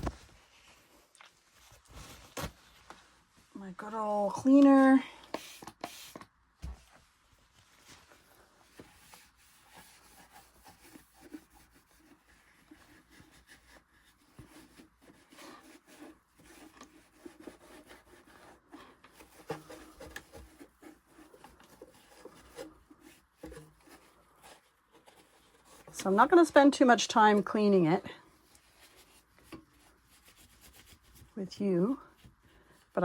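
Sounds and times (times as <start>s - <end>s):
cloth rubbing and scratching: 0.0s - 3.5s, 5.5s - 32.4s.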